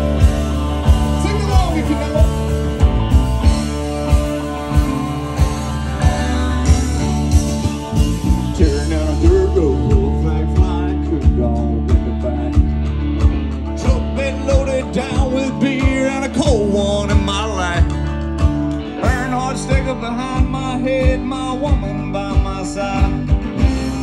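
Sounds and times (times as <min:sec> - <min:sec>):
country-rock band playing: 0:00.0 - 0:24.0
lead guitar bending pitch: 0:00.0 - 0:24.0.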